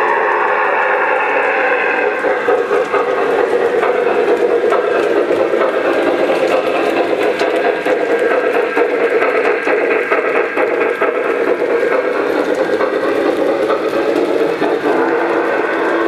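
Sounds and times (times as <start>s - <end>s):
model train running on rails: 0.0s - 16.0s.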